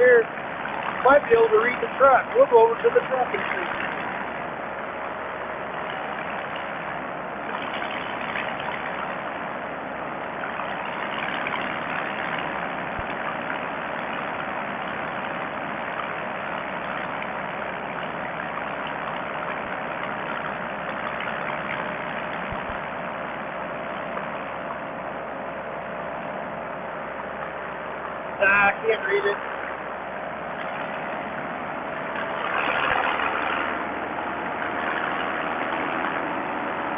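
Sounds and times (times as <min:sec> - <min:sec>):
paramotor engine droning: 0:00.0 - 0:36.9.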